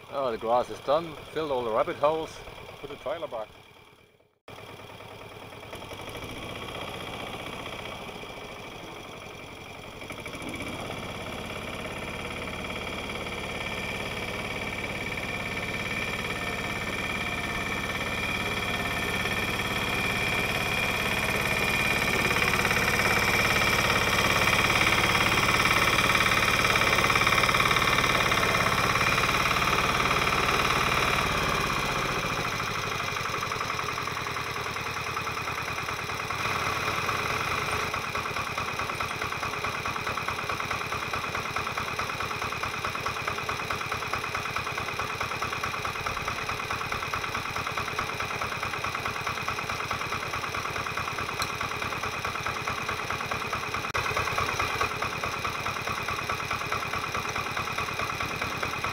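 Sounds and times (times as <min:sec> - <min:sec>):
ride-on mower diesel engine: 0:00.0 - 0:58.9.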